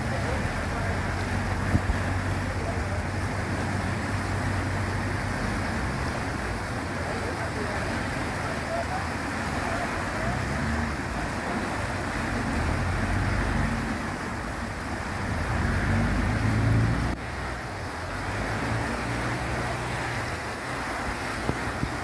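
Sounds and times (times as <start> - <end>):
boat engine hum: 0.0 - 22.0
water rushing through sluice gate: 0.0 - 22.0.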